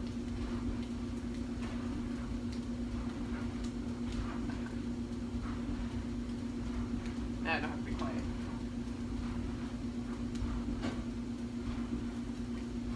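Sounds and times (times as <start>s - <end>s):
low electrical hum: 0.0s - 12.9s.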